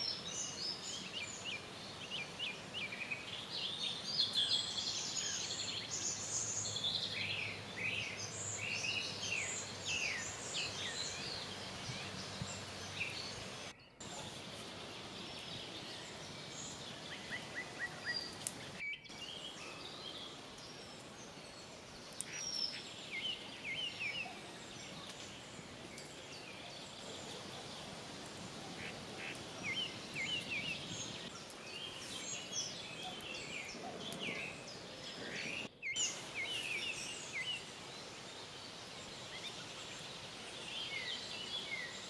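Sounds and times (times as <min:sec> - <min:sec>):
faint outdoor hiss: 0:00.0 - 0:42.0
small birds singing and chirping: 0:00.0 - 0:42.0.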